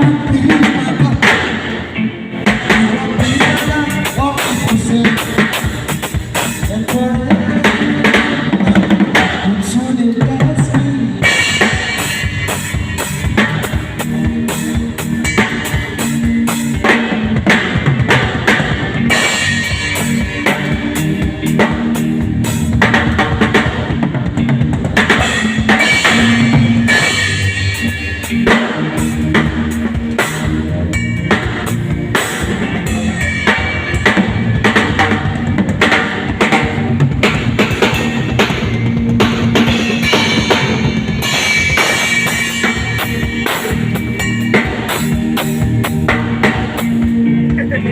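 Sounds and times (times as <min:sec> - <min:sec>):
accompanying music: 0:00.0 - 0:47.9
drum kit groove: 0:00.0 - 0:47.9.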